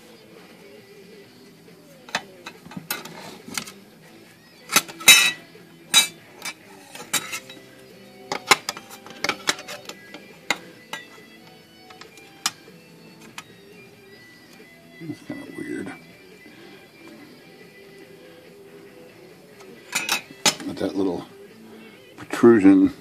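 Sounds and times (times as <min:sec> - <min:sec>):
faint music: 0:00.0 - 0:23.0.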